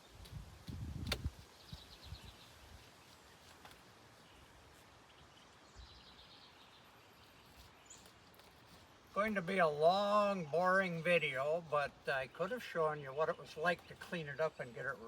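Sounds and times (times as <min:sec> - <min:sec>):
distant birds chirping: 0:01.4 - 0:15.0.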